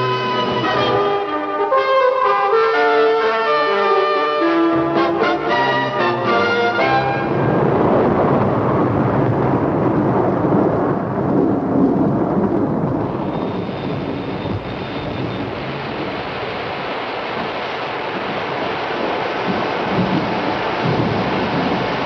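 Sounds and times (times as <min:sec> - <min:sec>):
low rumbling noise: 0:00.0 - 0:01.7, 0:04.5 - 0:22.0.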